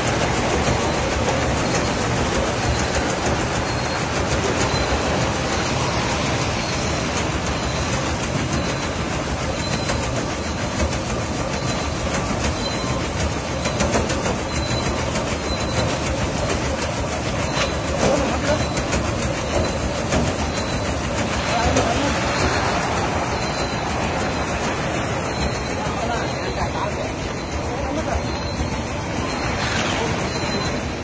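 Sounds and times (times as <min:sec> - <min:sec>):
sieving machine rattling: 0:00.0 - 0:31.0.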